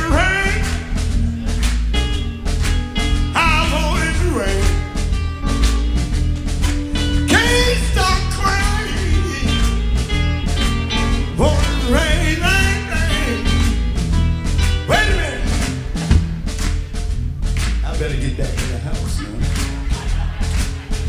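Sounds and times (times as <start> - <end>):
sliding guitar lead line: 0.0 - 17.2
electric blues band playing: 0.0 - 21.0.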